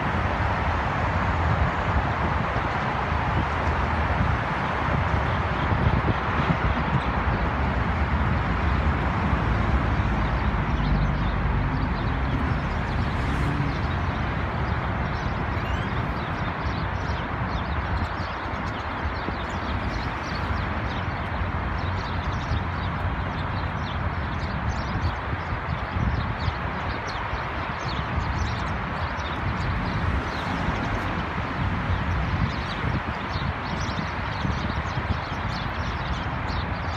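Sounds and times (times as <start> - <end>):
city road traffic rumble: 0.0 - 36.9.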